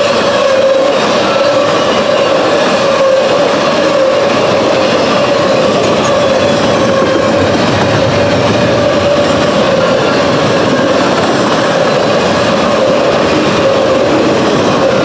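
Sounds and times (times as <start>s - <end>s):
freight train wheels clattering: 0.0s - 15.0s.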